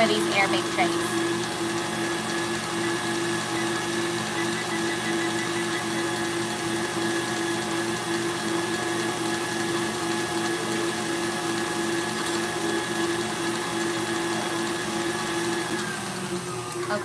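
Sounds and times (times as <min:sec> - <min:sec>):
stand mixer motor hum: 0:00.0 - 0:17.0.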